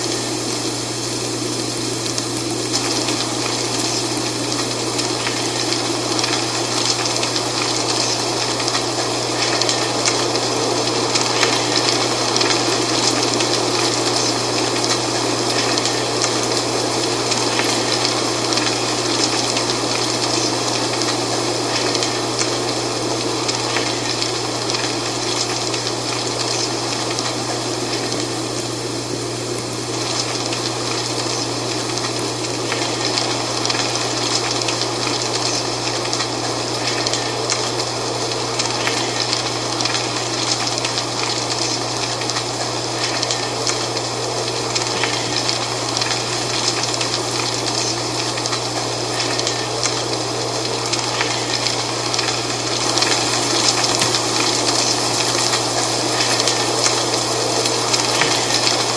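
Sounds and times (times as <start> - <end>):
dry leaves rustling in wind: 0.0 - 58.9.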